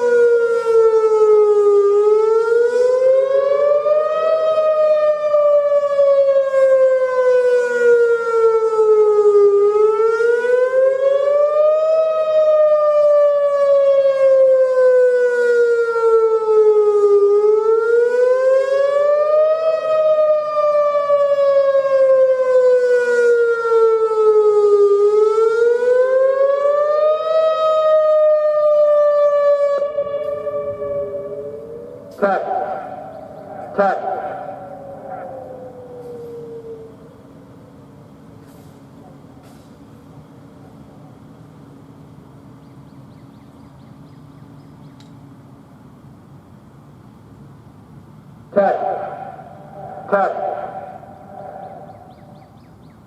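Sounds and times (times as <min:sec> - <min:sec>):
tornado warning siren wailing: 0:00.0 - 0:39.5, 0:48.5 - 0:53.0.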